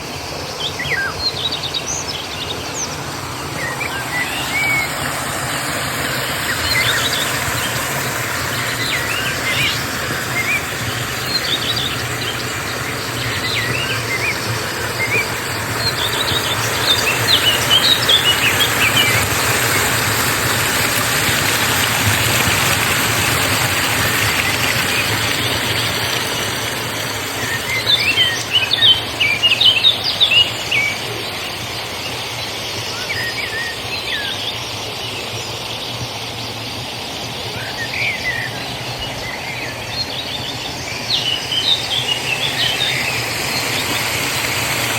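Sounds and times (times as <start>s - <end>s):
birds chirping: 0.0s - 44.9s
river water flowing: 0.0s - 44.9s.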